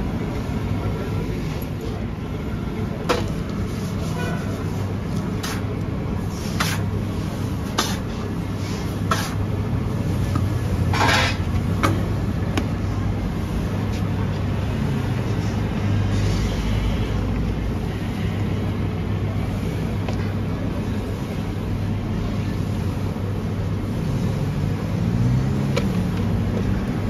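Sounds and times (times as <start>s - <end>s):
roaster humming: 0.0s - 27.0s.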